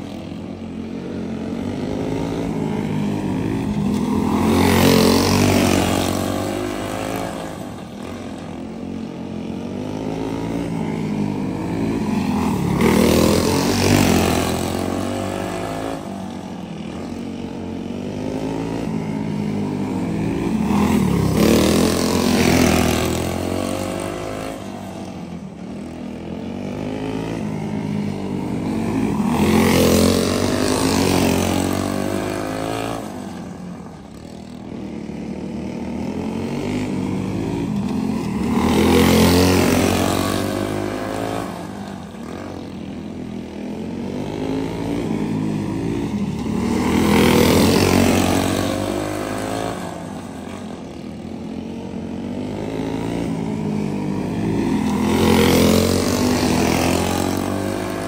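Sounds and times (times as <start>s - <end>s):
go-kart engine passing: 0.0s - 58.0s.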